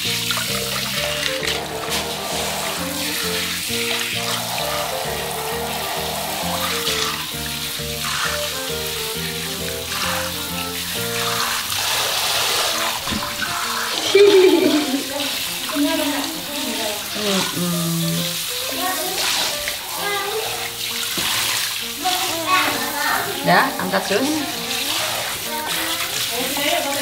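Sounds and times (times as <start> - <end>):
background music: 0.0 - 27.0
shower water spraying: 0.0 - 27.0.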